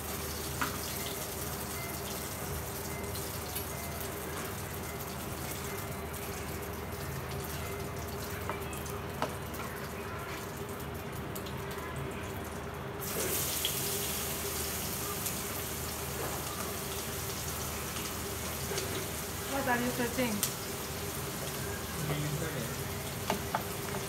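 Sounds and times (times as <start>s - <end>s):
fish frying in oil: 0.0s - 24.0s.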